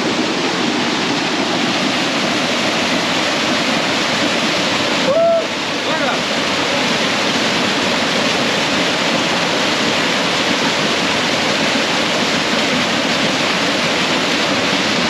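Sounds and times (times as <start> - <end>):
waterfall pouring into pool: 0.0 - 15.0.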